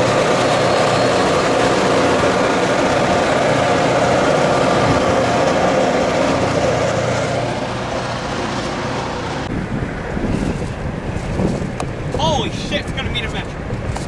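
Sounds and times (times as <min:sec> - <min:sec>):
car road noise: 0:00.0 - 0:14.0
diesel locomotives running past: 0:00.0 - 0:14.0.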